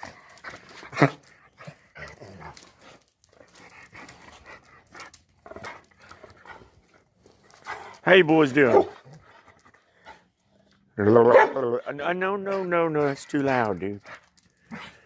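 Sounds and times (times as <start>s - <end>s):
dogs panting and whining: 0.0s - 15.0s.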